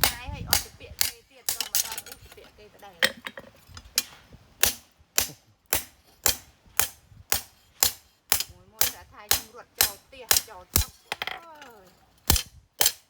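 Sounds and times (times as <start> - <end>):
hammer striking steel on anvil: 0.0 - 2.3, 4.0 - 13.0.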